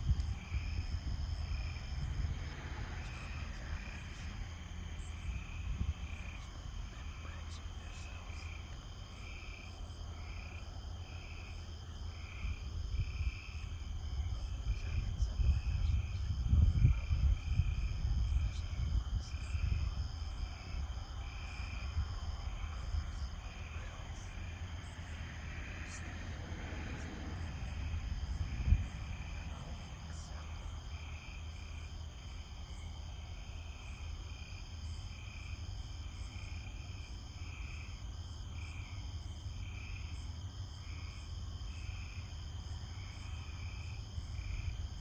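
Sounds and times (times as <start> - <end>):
night insects chirping: 0.0 - 45.0.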